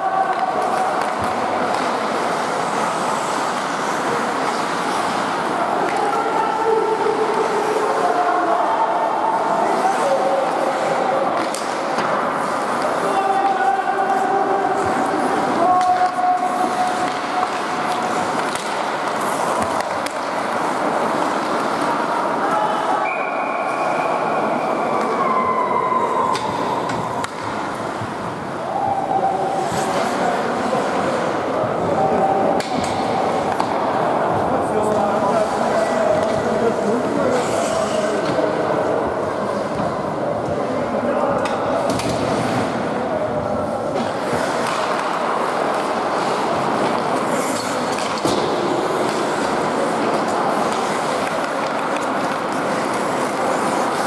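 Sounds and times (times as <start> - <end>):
hockey sticks and puck clacking: 0.0 - 8.1, 9.4 - 25.2, 26.3 - 54.0
skates scraping on ice: 0.2 - 8.2, 9.3 - 23.0, 26.4 - 41.0, 41.6 - 54.0.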